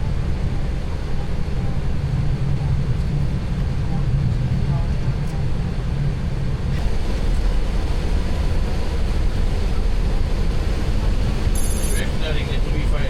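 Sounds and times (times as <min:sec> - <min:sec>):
aircraft cockpit rumble: 0:00.0 - 0:13.0.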